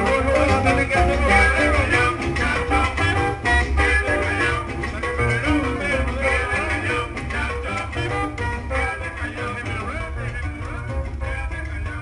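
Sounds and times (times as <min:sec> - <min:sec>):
dance music with pulsing bass: 0:00.0 - 0:12.0.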